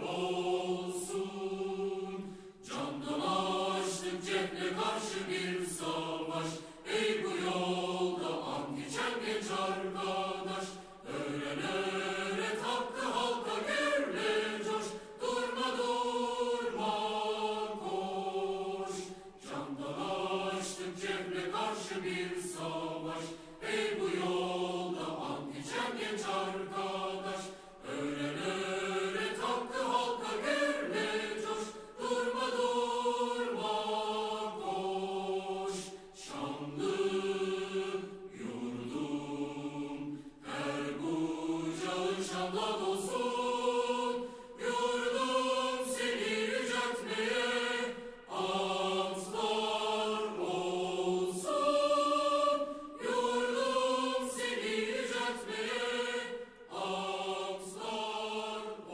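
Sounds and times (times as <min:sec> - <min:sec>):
choir singing held chords: 0:00.0 - 0:58.9.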